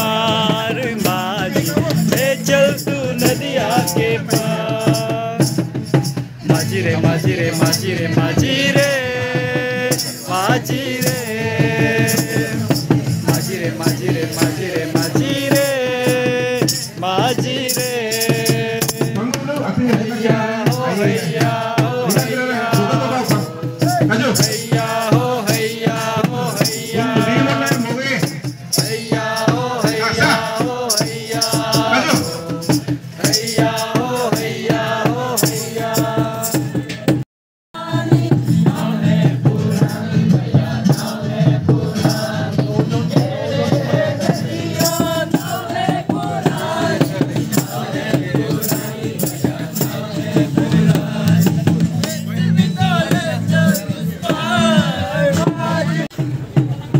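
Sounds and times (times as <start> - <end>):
drum beat: 0.0 - 37.2, 37.8 - 56.9
group of voices singing: 0.0 - 37.2, 37.8 - 56.2.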